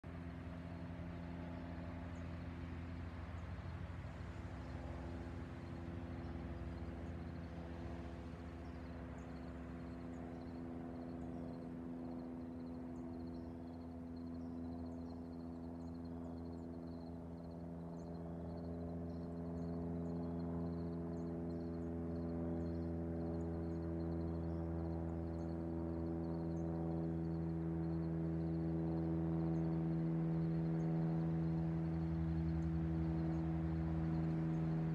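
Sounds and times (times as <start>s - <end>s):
propeller plane engine droning: 0.0s - 34.9s.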